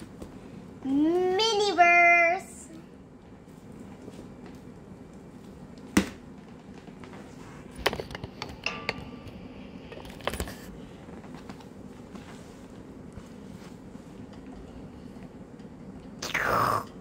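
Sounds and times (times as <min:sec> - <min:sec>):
low steady room hum: 0:00.0 - 0:17.0.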